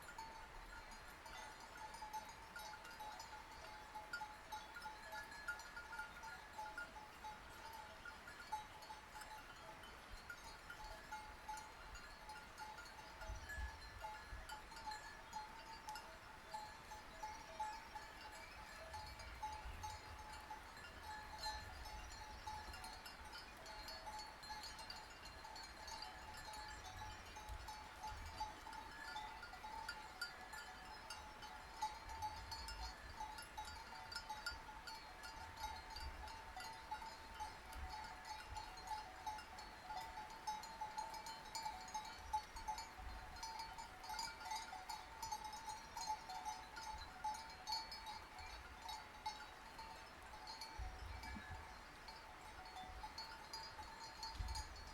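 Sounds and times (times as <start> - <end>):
sheep bells clinking: 0.0 - 54.9.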